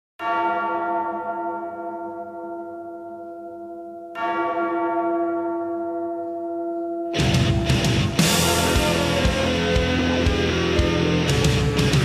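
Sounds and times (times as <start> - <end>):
large bell ringing: 0.2 - 12.0.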